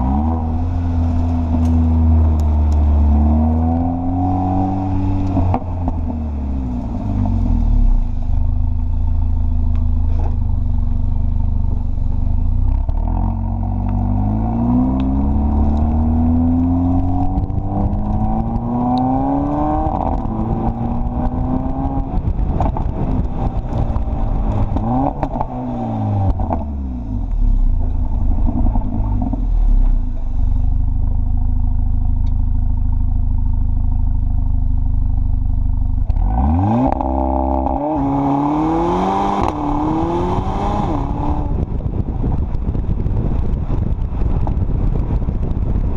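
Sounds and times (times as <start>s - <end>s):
car engine revving: 0.0s - 32.0s, 36.0s - 41.9s
exhaust crackle: 0.0s - 45.9s.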